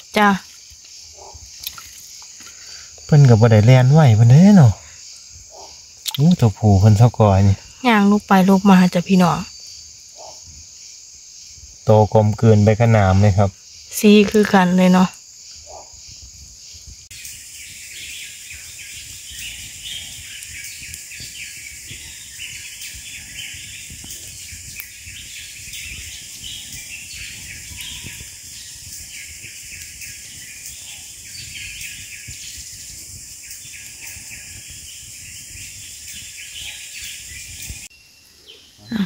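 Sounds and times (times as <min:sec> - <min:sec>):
birds chirping rapidly: 0:00.0 - 0:39.0
high-pitched insect hum: 0:00.0 - 0:39.0.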